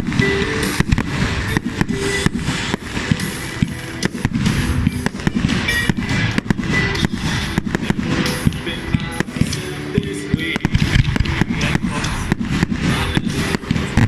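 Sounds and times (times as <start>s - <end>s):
fireworks bangs and crackling: 0.0s - 14.0s
music playing: 0.0s - 14.0s.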